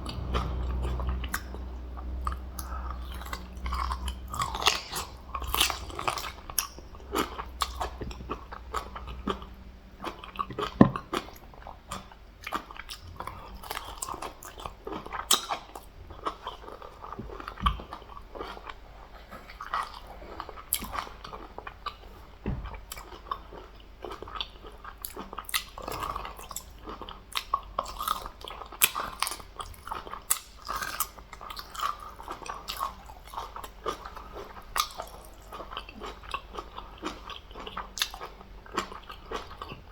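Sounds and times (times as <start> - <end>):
person chewing close to microphone: 0.0 - 39.9.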